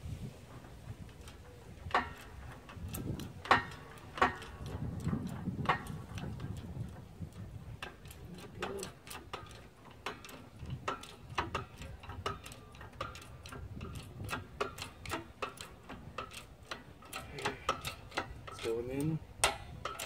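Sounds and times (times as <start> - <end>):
hydraulic jack pump clicking: 1.0 - 20.0.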